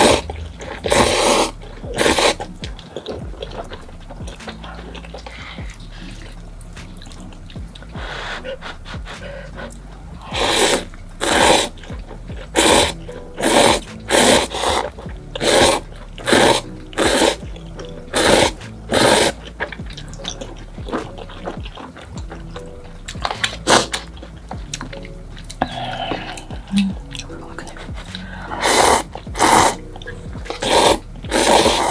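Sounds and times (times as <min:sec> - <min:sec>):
noodles being slurped: 0:00.0 - 0:31.9
quiet chewing: 0:00.0 - 0:31.9.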